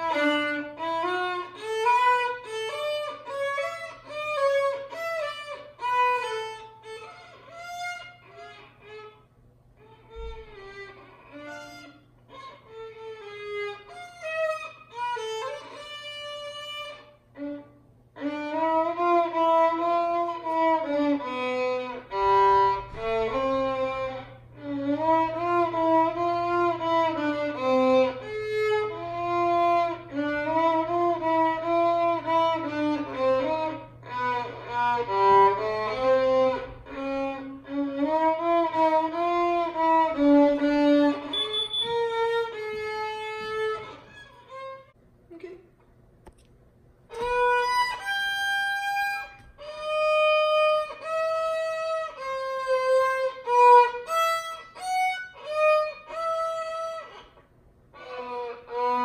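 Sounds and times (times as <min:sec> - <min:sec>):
solo violin slow melody: 0:00.0 - 0:45.0, 0:47.1 - 0:59.0
faint low hum: 0:00.0 - 0:59.0.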